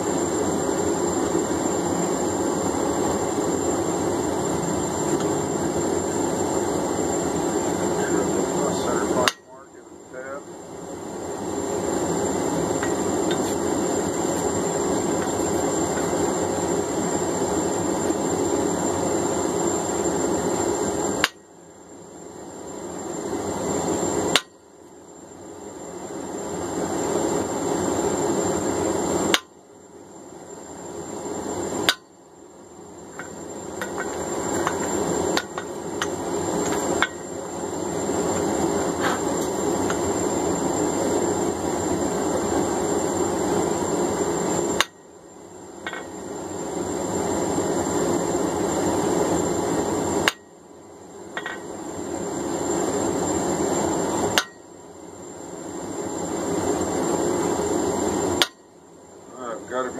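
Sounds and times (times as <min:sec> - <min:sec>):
forge running: 0:00.0 - 0:59.9.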